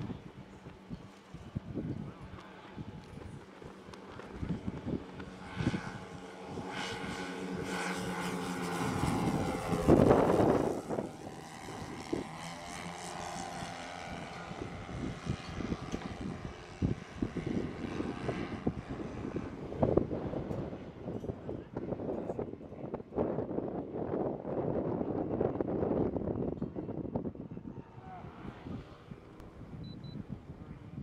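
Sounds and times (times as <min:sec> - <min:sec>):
model airplane engines droning: 0:00.0 - 0:31.0
wind buffeting microphone: 0:00.0 - 0:31.0.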